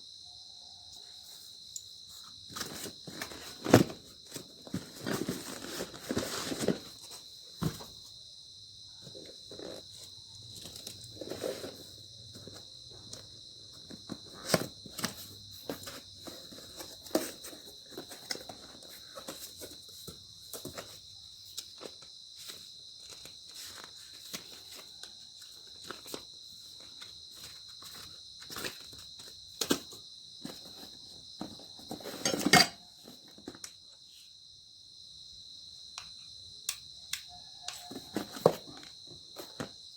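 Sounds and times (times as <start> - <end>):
insects chirring: 0.0 - 39.9
objects being handled: 1.7 - 8.1, 9.0 - 33.8, 37.6 - 39.7.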